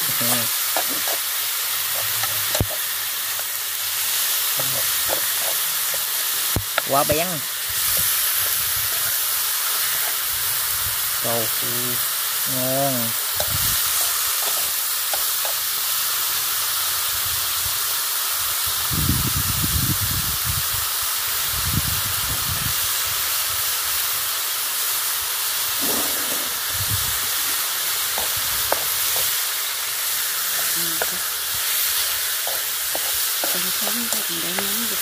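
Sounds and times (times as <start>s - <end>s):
meat frying in a wok: 0.0s - 35.0s.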